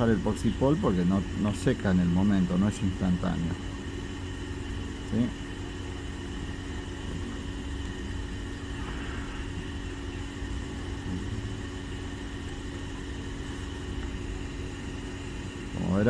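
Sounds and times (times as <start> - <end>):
mechanical hum and low rumble: 0.0 - 16.0.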